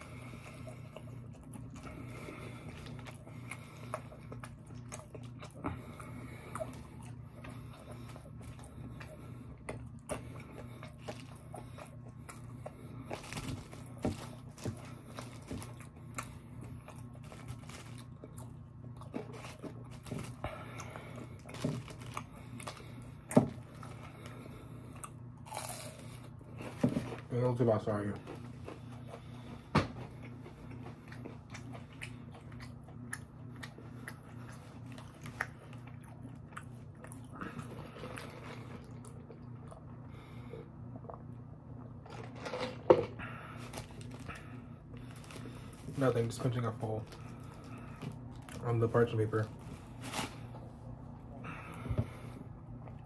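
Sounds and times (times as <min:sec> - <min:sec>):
clicks and crackles of eating: 0:00.0 - 0:27.3, 0:27.9 - 0:50.2
chewing and crunching food: 0:00.0 - 0:53.0
steady low hum: 0:00.0 - 0:53.0.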